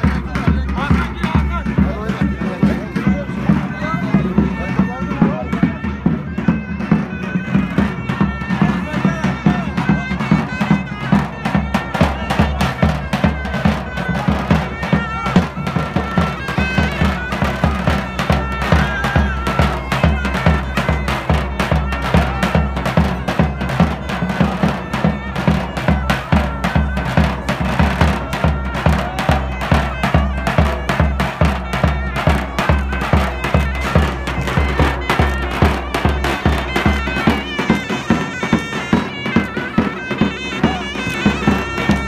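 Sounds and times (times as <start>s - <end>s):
heavy drum beat: 0.0s - 42.0s
shrill reed wind instrument: 0.0s - 42.0s.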